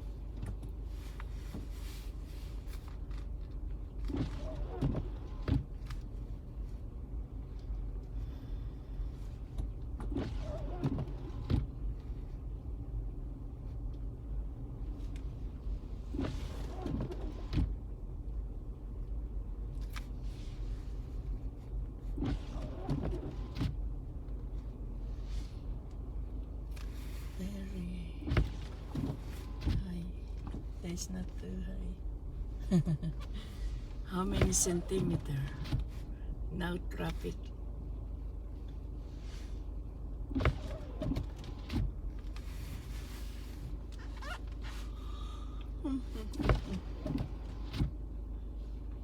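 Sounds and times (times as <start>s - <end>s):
car road rumble from inside: 0.0s - 49.0s.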